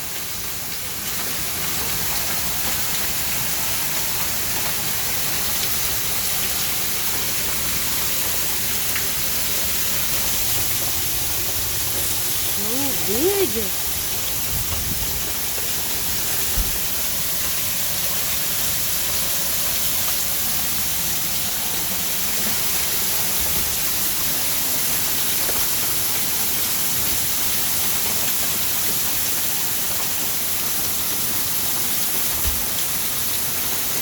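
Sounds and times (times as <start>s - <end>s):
hail and rain pelting down: 0.0s - 34.0s.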